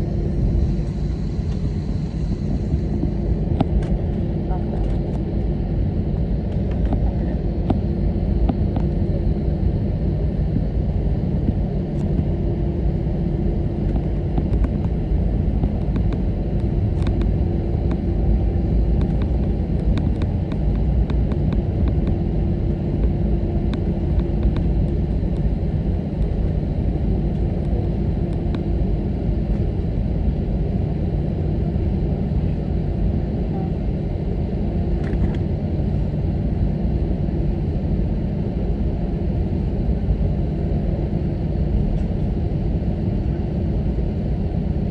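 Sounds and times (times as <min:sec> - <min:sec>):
low cabin rumble: 0:00.0 - 0:44.9
steady hum: 0:00.0 - 0:44.9.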